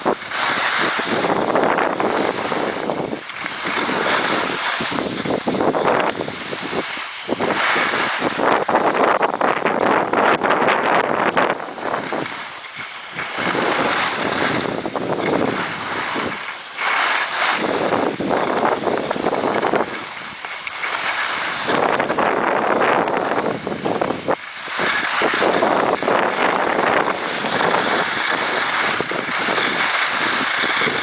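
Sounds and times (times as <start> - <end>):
skis sliding over snow: 0.0 - 31.0
wind buffeting microphone: 0.0 - 31.0.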